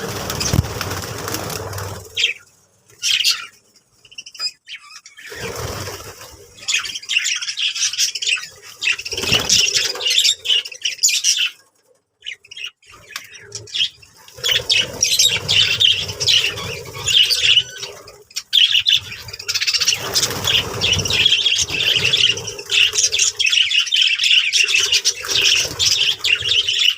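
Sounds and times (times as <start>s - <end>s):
budgerigars chattering and warbling: 0.0s - 11.6s, 12.2s - 26.9s.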